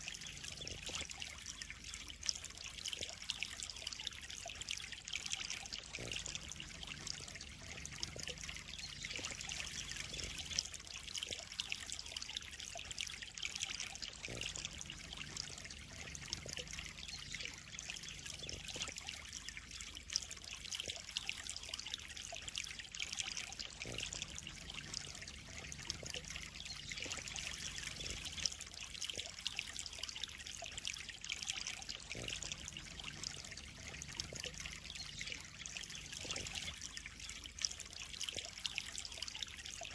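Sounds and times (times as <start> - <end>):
pond water trickling and splashing: 0.0 - 39.9.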